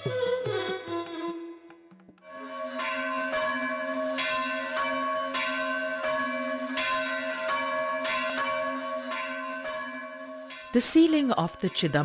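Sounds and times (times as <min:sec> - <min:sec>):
temple bells ringing: 0:02.2 - 0:12.0.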